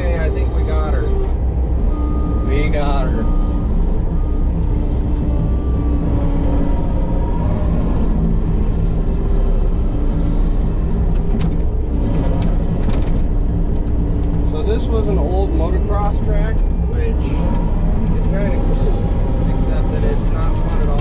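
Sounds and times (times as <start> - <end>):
loader diesel engine running: 0.0 - 21.0.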